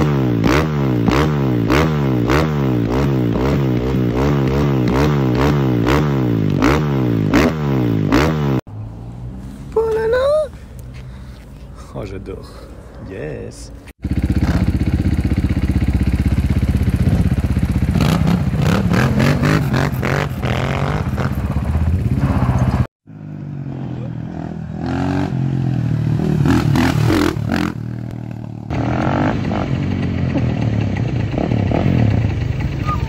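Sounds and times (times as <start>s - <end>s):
motorcycle engines revving: 0.0s - 11.3s, 13.9s - 33.0s.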